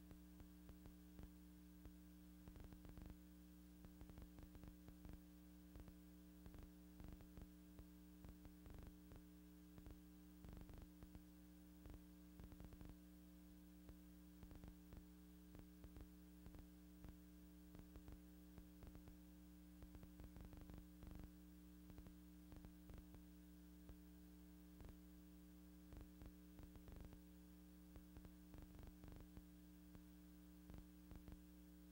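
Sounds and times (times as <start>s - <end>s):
faint clicks and crackle: 0.0s - 31.9s.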